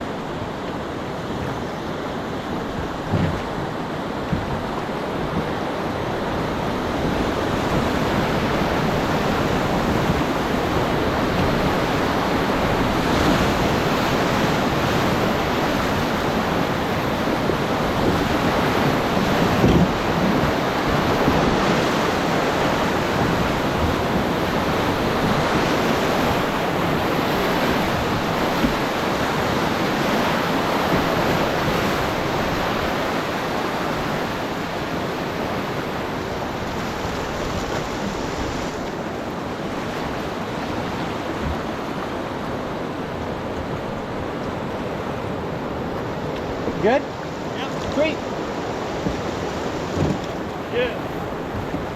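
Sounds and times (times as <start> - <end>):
rushing whitewater: 0.0 - 51.9.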